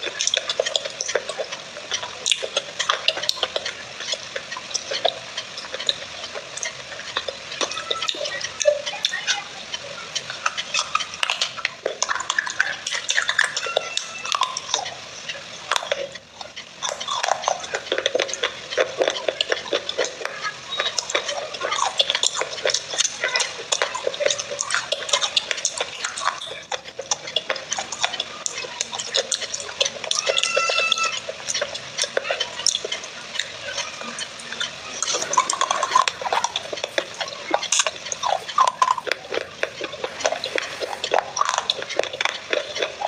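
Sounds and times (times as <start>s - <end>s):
crunching and chewing: 0.0s - 43.0s.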